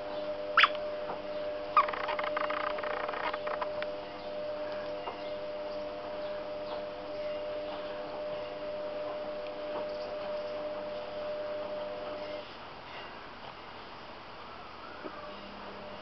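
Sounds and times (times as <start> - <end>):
steady hum of held tones: 0.0 - 16.0.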